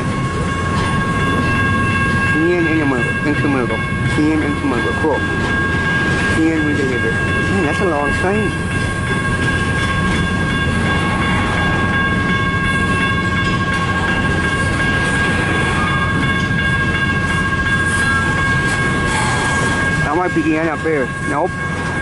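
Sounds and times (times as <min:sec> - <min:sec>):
freight train rumbling and clacking: 0:00.0 - 0:22.0
steady high-pitched ringing tone: 0:00.0 - 0:22.0.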